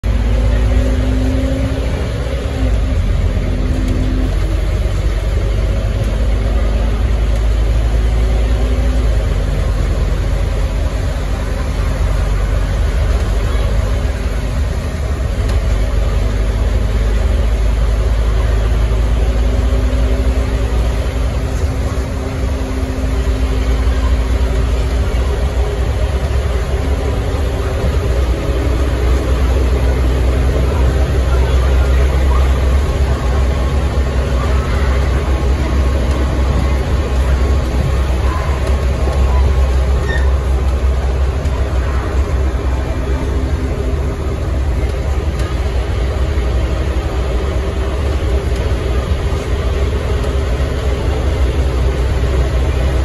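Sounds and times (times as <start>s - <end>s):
bus diesel engine drone: 0.0s - 53.0s
road noise: 0.0s - 53.0s.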